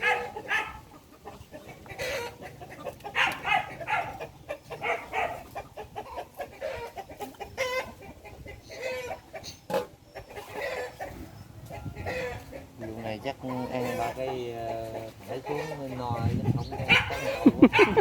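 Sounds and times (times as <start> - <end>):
chicken warbling call: 0.0 - 12.7, 15.4 - 18.0
chickens clucking: 0.0 - 18.0.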